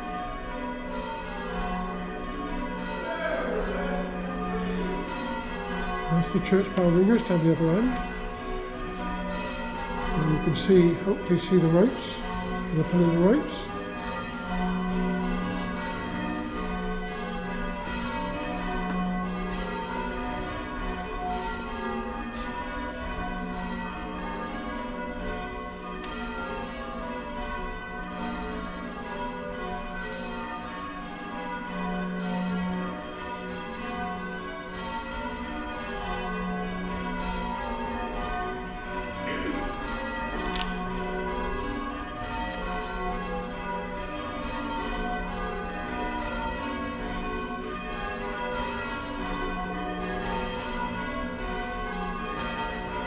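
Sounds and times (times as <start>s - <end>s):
church bells ringing: 0.0s - 53.0s.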